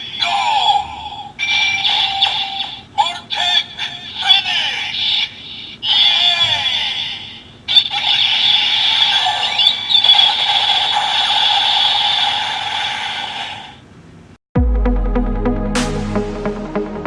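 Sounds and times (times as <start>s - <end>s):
electronic toy sound effect: 0.0s - 13.8s.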